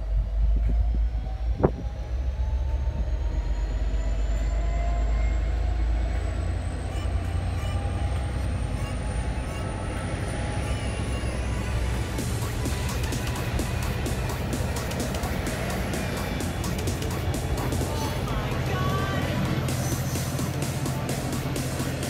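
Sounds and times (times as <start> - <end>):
faint rising whine: 0.0 - 22.0
train wheels rumbling on rails: 0.0 - 22.0.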